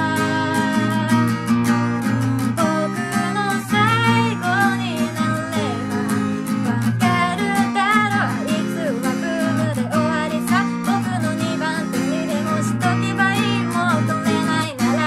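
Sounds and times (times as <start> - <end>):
acoustic guitar strumming chords: 0.0 - 15.0
woman singing: 0.0 - 15.0.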